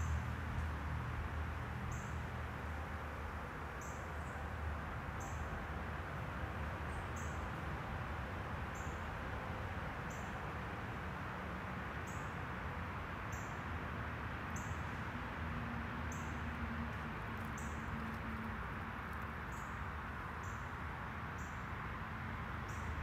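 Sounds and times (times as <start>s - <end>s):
steady outdoor hiss: 0.0s - 23.0s.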